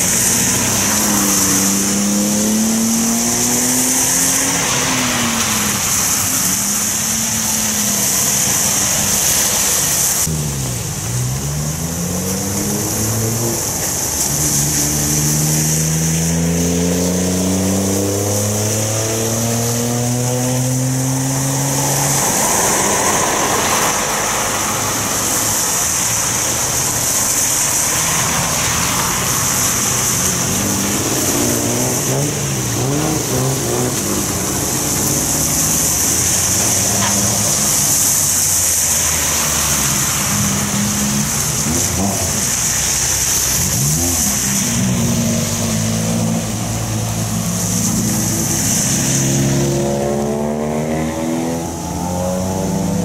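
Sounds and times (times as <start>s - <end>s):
car engine accelerating: 0.0s - 53.0s
car engines passing: 0.0s - 53.0s
tyres hissing on wet road: 0.0s - 53.0s.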